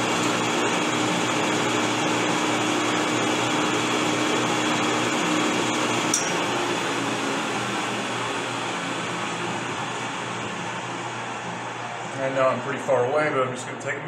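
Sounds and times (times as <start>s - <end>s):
metal lathe cutting: 0.0s - 13.7s.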